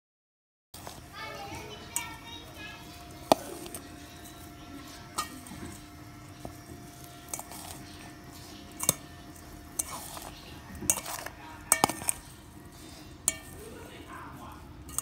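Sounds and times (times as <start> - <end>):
utensil clinking and scraping bowl: 0.8 - 15.0.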